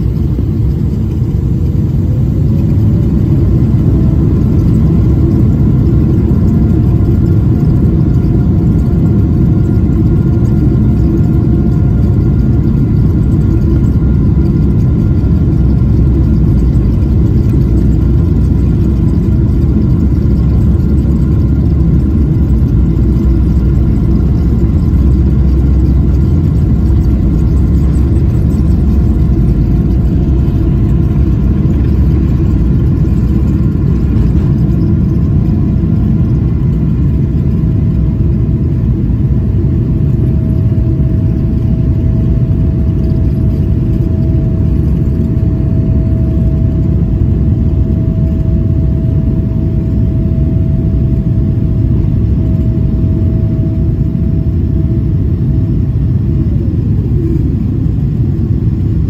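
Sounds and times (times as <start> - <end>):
jet engines roaring: 0.0 - 59.0
steady whine-like tone: 0.0 - 59.0.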